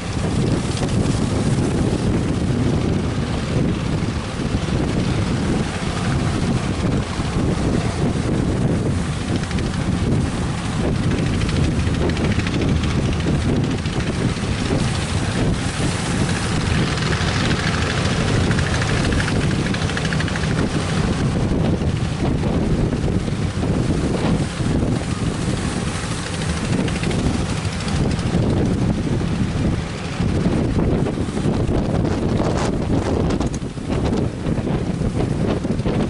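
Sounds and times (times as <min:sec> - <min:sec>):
surf breaking: 0:00.0 - 0:36.0
wind buffeting microphone: 0:00.0 - 0:36.0.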